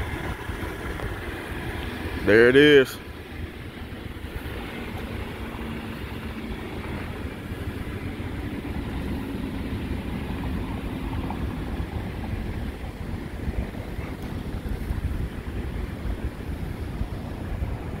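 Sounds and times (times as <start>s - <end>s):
vehicle engine hum: 0.0s - 18.0s
wind rumbling on microphone: 0.0s - 18.0s.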